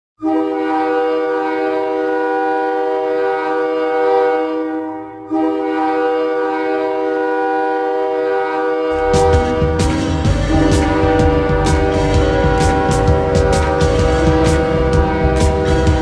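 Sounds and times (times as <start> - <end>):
goal horn blast: 0.2 - 16.0.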